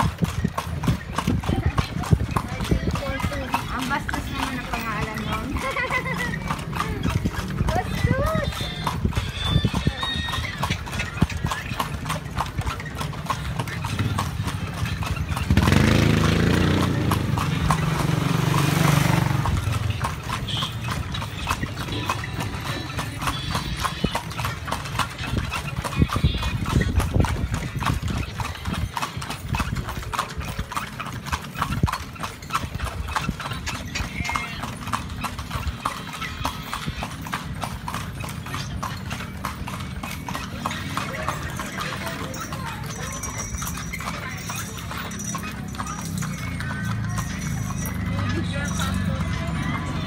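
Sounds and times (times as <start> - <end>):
horse hooves clip-clopping on pavement: 0.0 - 50.0
motor vehicle rumble: 0.0 - 50.0.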